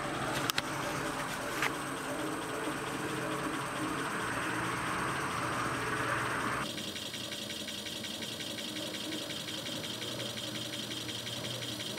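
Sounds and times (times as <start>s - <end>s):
electric motor hum and whine: 0.0s - 11.9s.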